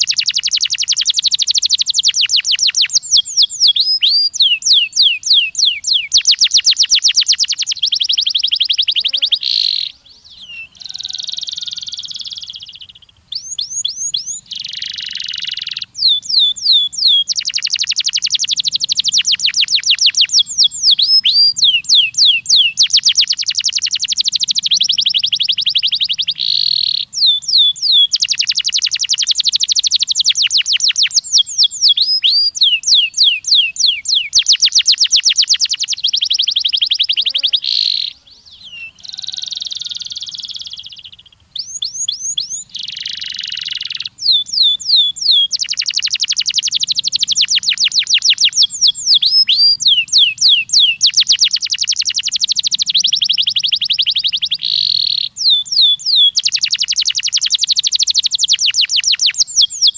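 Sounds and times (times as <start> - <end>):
canary singing trills: 0.0 - 59.9
harsh buzzing bird phrases: 0.0 - 59.9.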